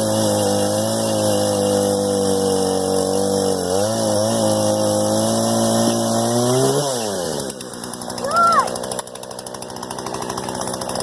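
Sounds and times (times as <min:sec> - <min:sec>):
chainsaw running at high revs: 0:00.0 - 0:11.0.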